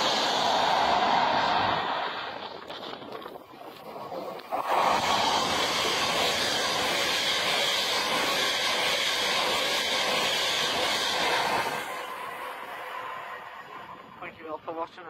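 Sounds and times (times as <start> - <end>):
high-speed train passing: 0.0 - 2.7, 4.4 - 15.0.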